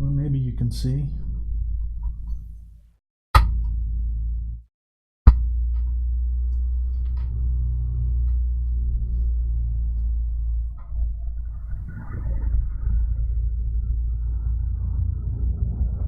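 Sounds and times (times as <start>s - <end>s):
low hum: 0.0s - 4.6s, 5.3s - 16.0s.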